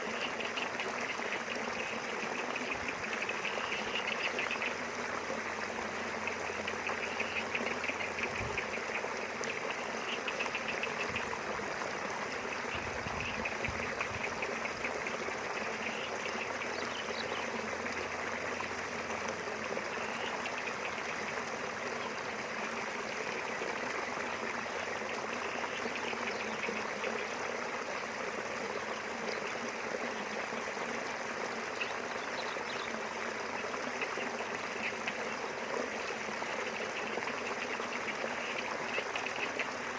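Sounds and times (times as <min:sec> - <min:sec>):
small river flowing: 0:00.0 - 0:39.9.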